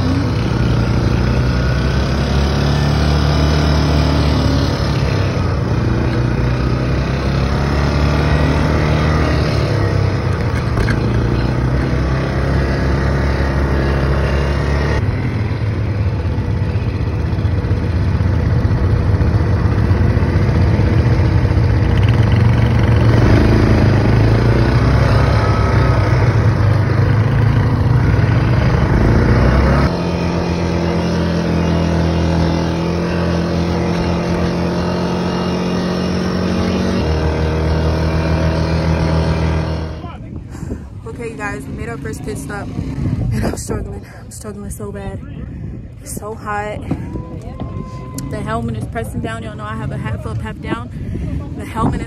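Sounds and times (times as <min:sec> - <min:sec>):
atv engines revving: 0:00.0 - 0:52.0.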